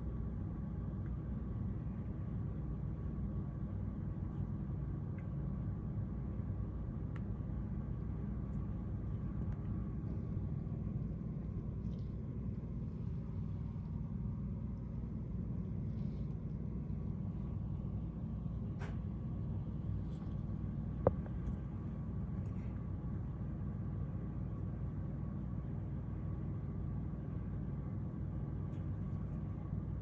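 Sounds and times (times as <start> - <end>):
low rumble of city traffic: 0.0 - 30.0.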